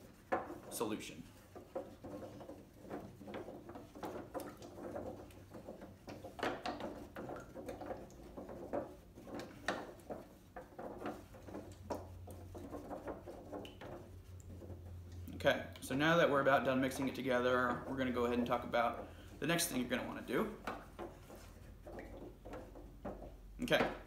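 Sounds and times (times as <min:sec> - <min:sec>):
liquid swirling: 0:00.0 - 0:24.0.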